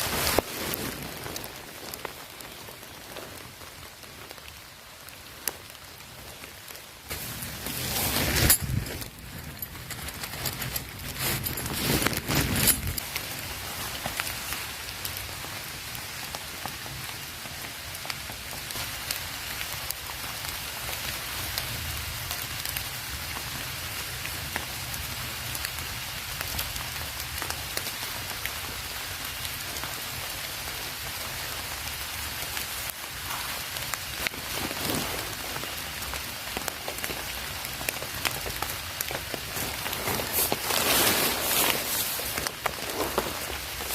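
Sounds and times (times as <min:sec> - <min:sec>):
heavy rain patter: 0:00.0 - 0:43.9.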